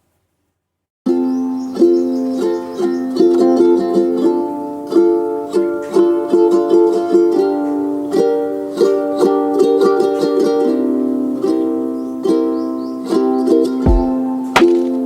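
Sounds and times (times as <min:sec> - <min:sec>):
plucked string instrument music: 0:01.1 - 0:15.0.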